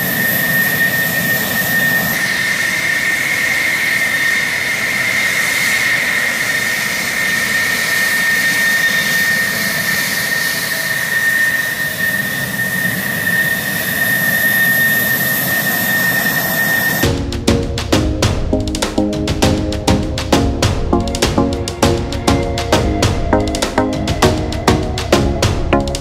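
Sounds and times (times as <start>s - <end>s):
jet engine whine: 0.0s - 19.3s, 19.9s - 26.0s.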